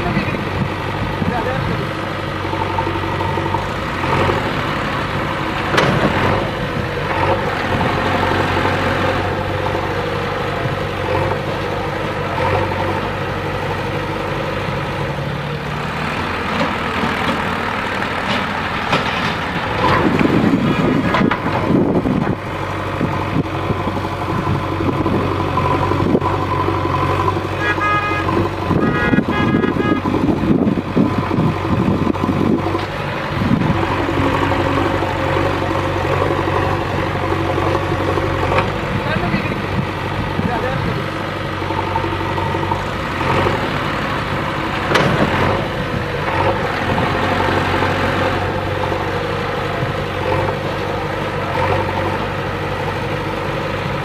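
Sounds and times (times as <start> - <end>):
diesel engine of backhoe loader: 0.0 - 54.0.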